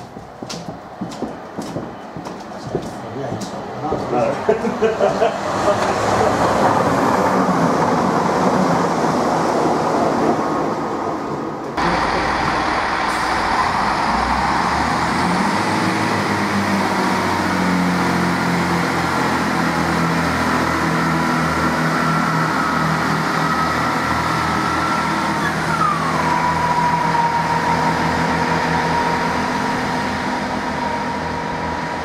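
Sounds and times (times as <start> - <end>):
train diesel engines droning: 0.0 - 32.0
train passing at speed: 0.0 - 32.0.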